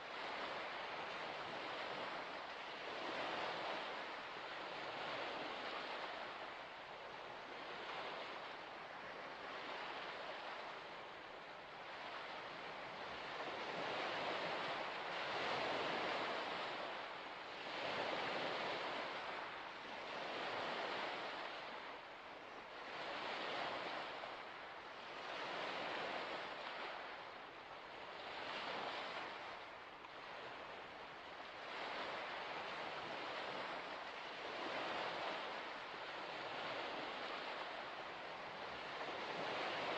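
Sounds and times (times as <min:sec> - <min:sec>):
small waves washing onto shore: 0:00.0 - 0:39.9.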